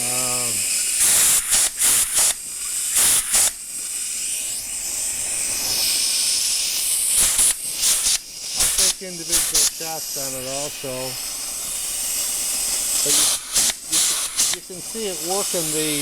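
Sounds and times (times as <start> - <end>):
pneumatic riveter exhaust blasts: 0.0 - 16.0
steady air hiss: 0.0 - 16.0.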